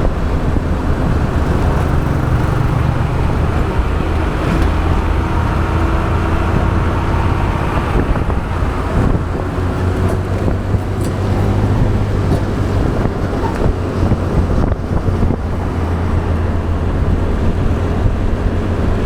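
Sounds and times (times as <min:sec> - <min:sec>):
motorbike engine running: 0:00.0 - 0:19.0
wind noise on microphone: 0:00.0 - 0:19.0.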